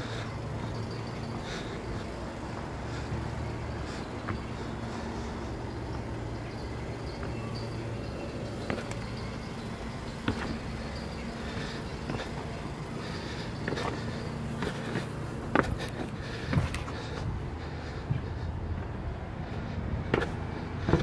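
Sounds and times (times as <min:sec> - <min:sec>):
city traffic hum: 0:00.0 - 0:21.0.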